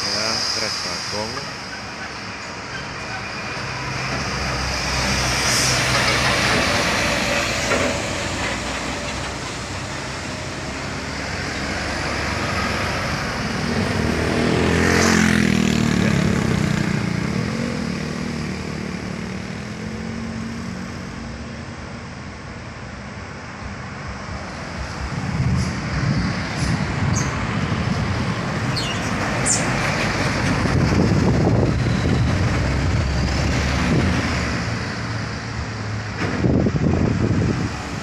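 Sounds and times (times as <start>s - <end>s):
truck diesel engine passing: 0.0s - 21.8s, 23.9s - 38.0s
bus engine passing: 0.0s - 38.0s
traffic noise: 0.0s - 38.0s.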